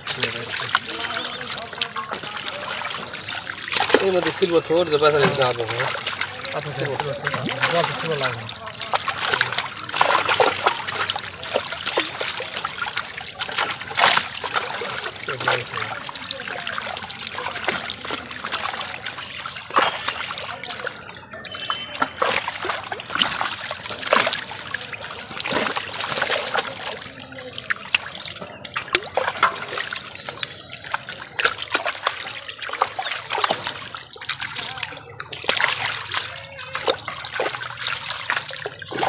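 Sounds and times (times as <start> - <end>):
fish splashing in shallow water: 0.0 - 39.0
water trickling and dripping: 0.0 - 39.0.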